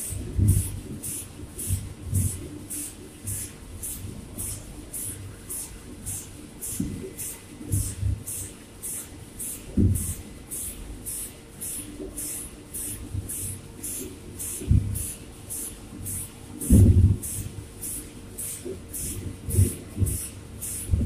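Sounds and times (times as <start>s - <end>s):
low machine hum: 0.0s - 21.0s
machinery hissing puffs: 0.0s - 21.0s.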